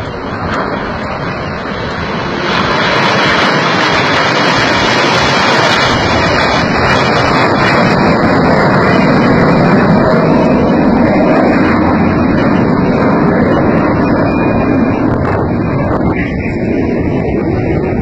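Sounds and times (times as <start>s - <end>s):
jet aircraft engine: 0.0s - 18.0s.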